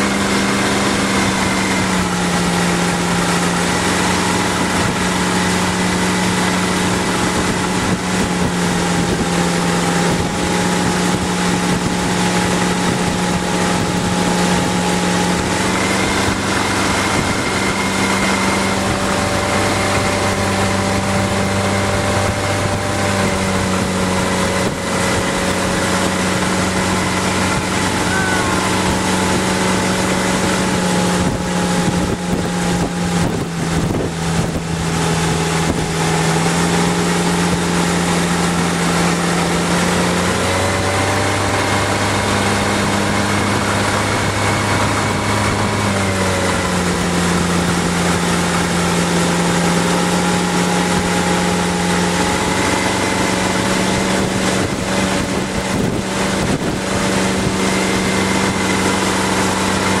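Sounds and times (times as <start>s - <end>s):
motorboat engine running: 0.0s - 60.0s
wind buffeting microphone: 0.0s - 60.0s.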